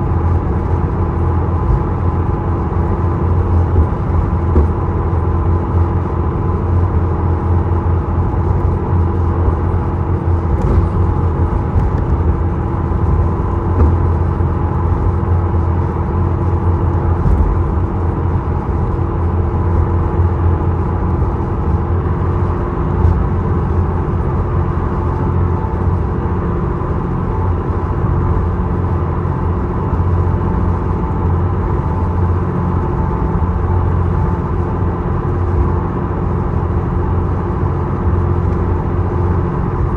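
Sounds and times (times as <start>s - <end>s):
ferry engine drone: 0.0s - 39.9s.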